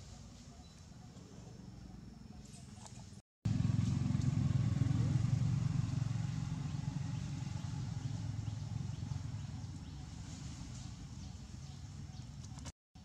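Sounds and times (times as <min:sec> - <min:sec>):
motor engine rumbling: 0:00.4 - 0:12.7.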